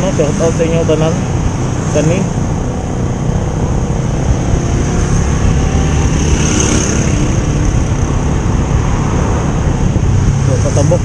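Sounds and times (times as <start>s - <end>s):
motorcycle engine running: 0.0s - 11.0s
wind rushing: 0.0s - 11.0s.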